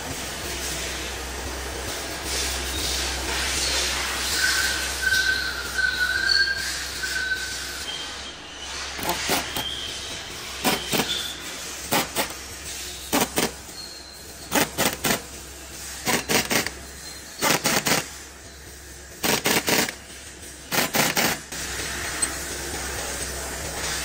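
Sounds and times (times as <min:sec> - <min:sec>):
pneumatic impact wrench bursts: 0:01.9 - 0:22.6.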